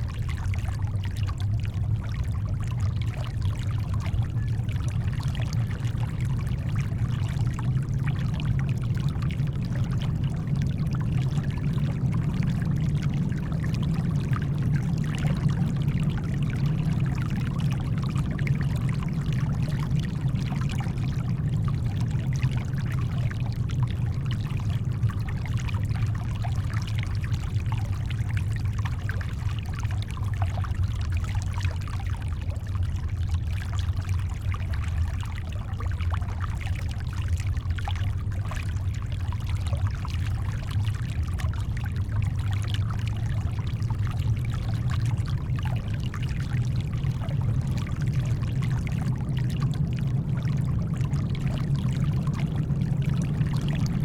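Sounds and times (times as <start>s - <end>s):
deep low rumble: 0.0s - 54.0s
water lapping and splashing: 0.0s - 54.0s.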